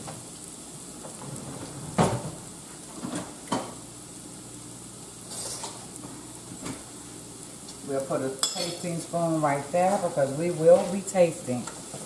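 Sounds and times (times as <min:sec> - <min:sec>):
vegetables sizzling in a skillet: 0:00.0 - 0:12.0.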